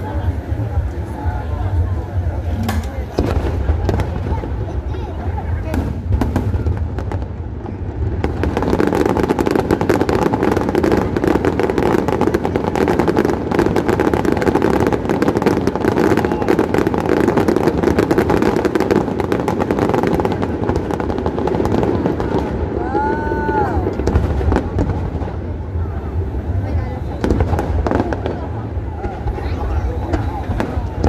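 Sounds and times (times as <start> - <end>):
fireworks crackling: 0.0 - 31.0
fireworks rumble: 0.0 - 31.0.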